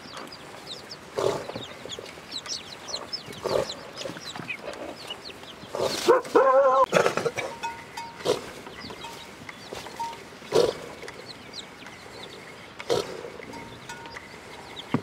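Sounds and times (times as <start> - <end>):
chicken peeping: 0.0 - 15.0.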